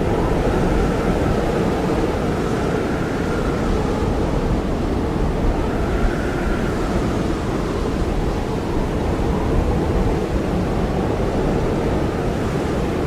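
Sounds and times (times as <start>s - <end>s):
blizzard wind howling: 0.0s - 13.0s.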